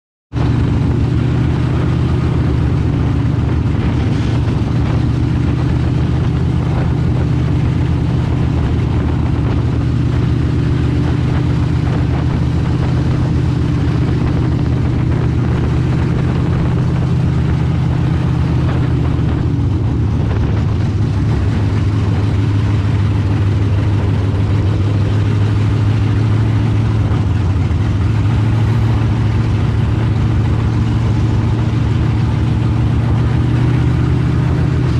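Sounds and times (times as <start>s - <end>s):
race car engine running: 0.3s - 34.9s.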